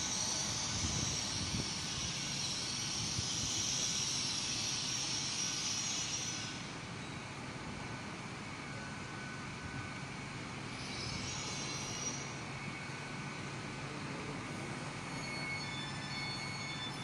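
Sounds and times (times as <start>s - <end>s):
train engines hissing and rumbling: 0.0s - 17.0s.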